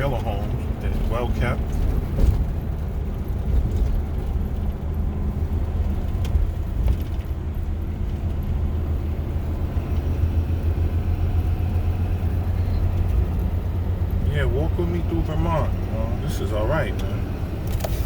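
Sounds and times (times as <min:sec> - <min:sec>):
road rumble: 0:00.0 - 0:18.0
truck engine drone: 0:00.0 - 0:18.0.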